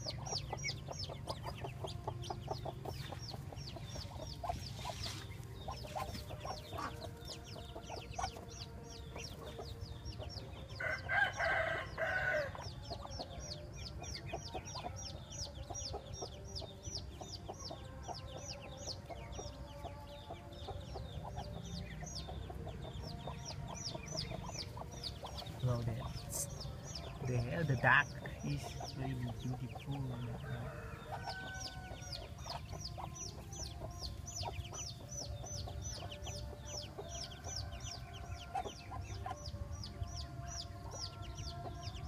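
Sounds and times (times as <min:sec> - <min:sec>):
ducklings peeping: 0:00.0 - 0:42.0.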